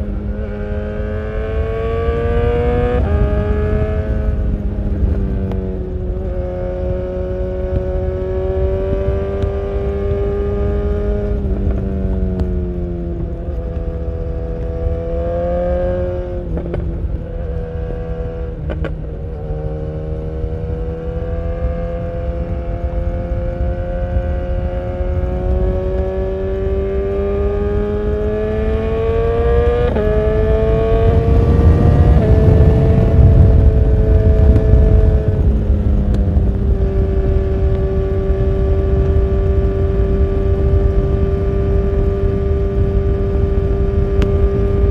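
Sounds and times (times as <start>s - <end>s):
motorcycle engine revving: 0.0s - 44.9s
wind rush: 0.0s - 44.9s.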